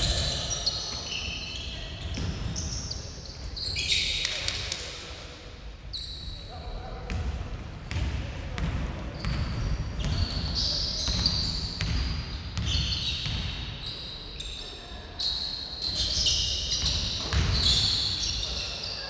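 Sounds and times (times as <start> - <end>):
sneakers squeaking: 0.0 - 4.7, 7.8 - 19.0.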